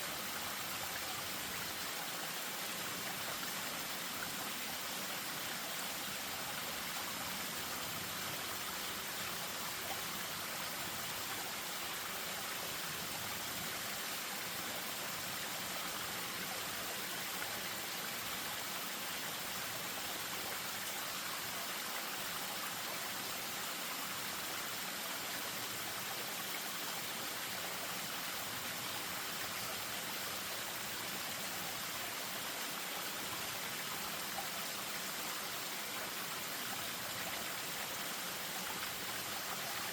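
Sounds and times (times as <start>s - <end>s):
stream running down waterfall: 0.0s - 39.9s.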